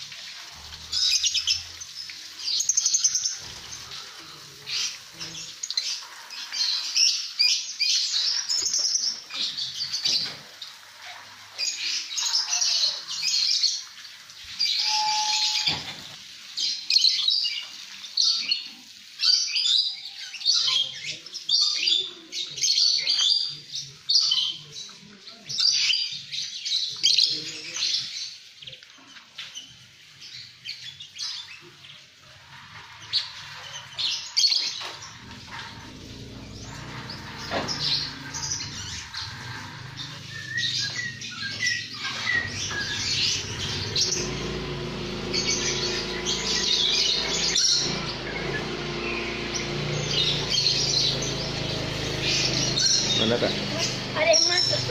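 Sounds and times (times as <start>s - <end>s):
birds chattering and chirping: 0.0s - 54.9s.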